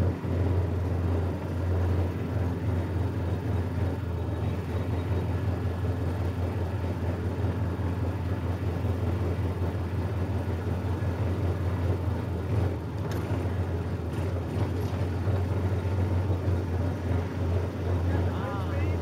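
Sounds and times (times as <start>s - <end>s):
garden tractor engine running: 0.0s - 19.0s.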